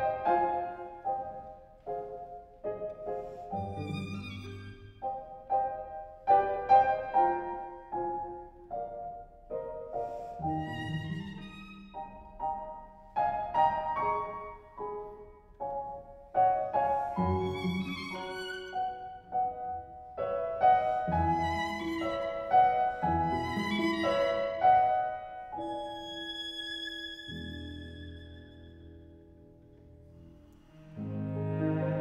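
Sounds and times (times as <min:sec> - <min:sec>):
violin: 0:00.0 - 0:02.0, 0:02.8 - 0:07.7, 0:10.0 - 0:32.0
piano: 0:00.0 - 0:32.0.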